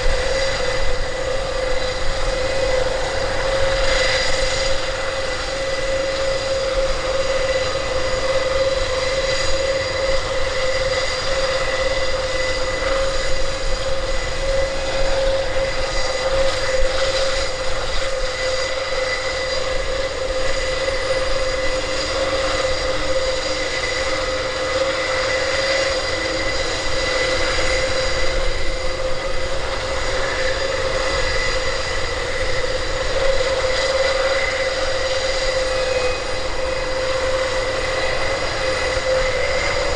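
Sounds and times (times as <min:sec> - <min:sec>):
turboprop engines whining: 0:00.0 - 0:39.9.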